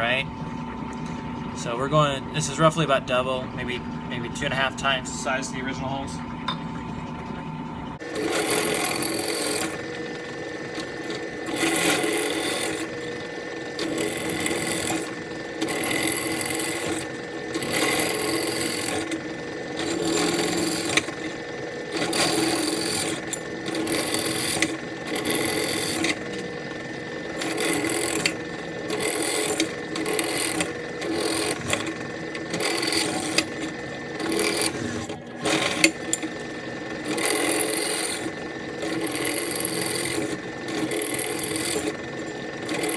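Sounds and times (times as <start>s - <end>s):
electric drill grinding through metal: 8.0s - 42.9s.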